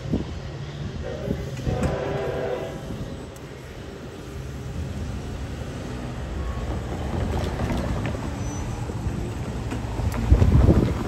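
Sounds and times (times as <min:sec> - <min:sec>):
train rumbling by: 0:00.0 - 0:11.0.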